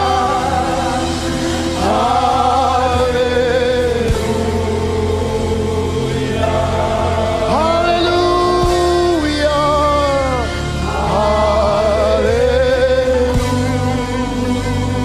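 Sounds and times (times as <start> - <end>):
gospel choir singing: 0.0 - 15.0
live band accompaniment: 0.0 - 15.0.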